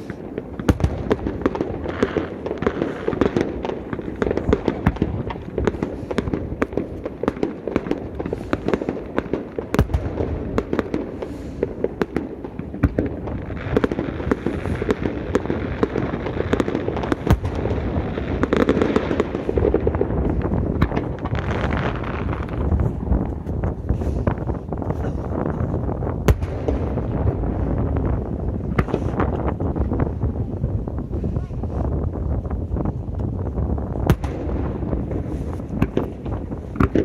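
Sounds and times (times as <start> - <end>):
blizzard wind rushing: 0.0 - 37.0
fireworks bangs and crackles: 0.0 - 37.0.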